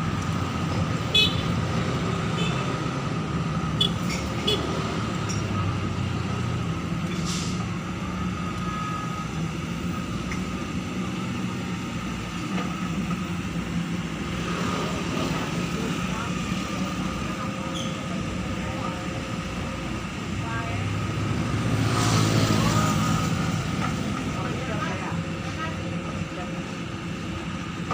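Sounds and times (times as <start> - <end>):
excavator engine running: 0.0 - 27.9.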